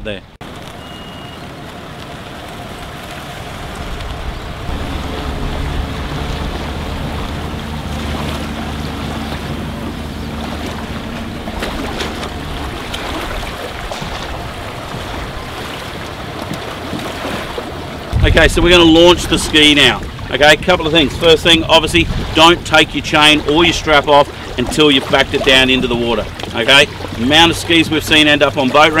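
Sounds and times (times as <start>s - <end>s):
low engine hum: 0.4s - 29.0s
small waves lapping: 0.4s - 29.0s
wind buffeting the microphone: 1.4s - 29.0s.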